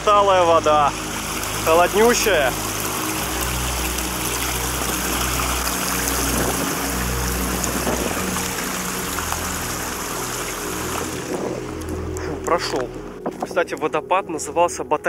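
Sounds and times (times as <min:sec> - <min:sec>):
stream rushing over rocks: 0:00.0 - 0:13.4.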